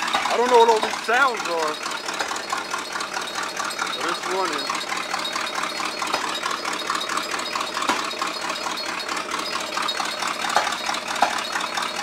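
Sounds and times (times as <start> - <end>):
car engine running unevenly: 0.0 - 12.0
engine pop: 0.0 - 12.0.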